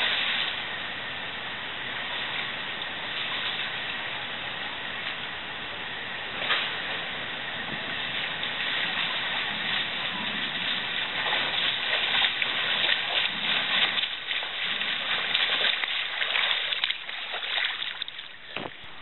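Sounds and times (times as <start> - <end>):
swimmer splashing: 0.0 - 19.0.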